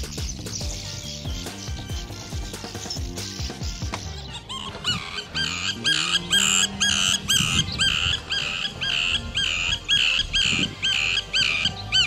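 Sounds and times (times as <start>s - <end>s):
tern calling: 0.0s - 12.0s.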